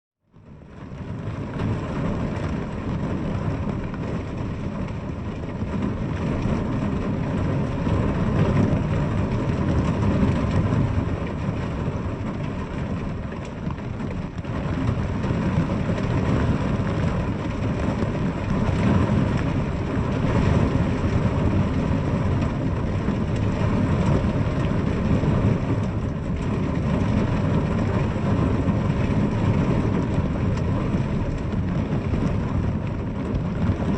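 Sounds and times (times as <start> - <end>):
heavy low rumble: 0.3 - 33.9
rain on a window: 0.3 - 33.9.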